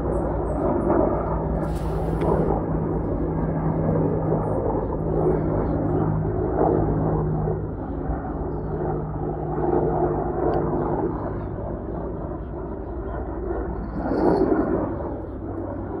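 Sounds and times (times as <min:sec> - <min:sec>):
helicopter rotors droning: 0:00.0 - 0:16.0.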